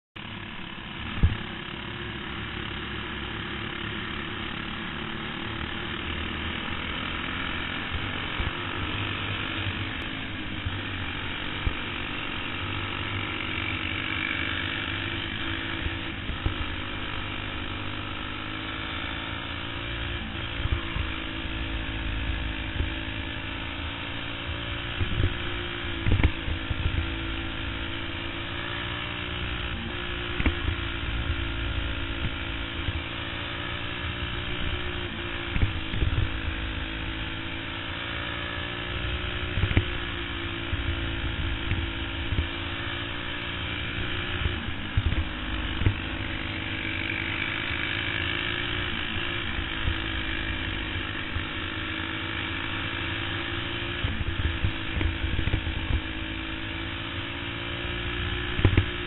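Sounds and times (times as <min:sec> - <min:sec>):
kart engine running hard: 0:00.2 - 0:59.0.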